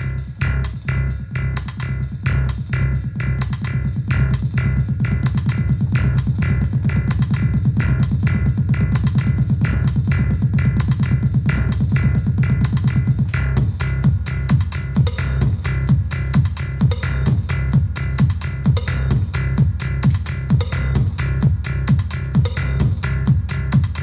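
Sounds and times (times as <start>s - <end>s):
techno with driving beat: 0.0s - 24.0s.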